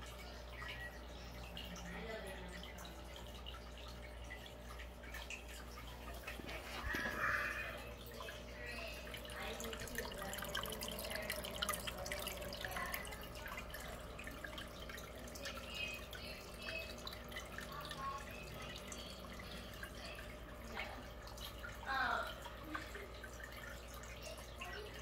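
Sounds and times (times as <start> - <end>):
low steady hum: 0.0 - 25.0
water dripping and plopping: 0.0 - 25.0.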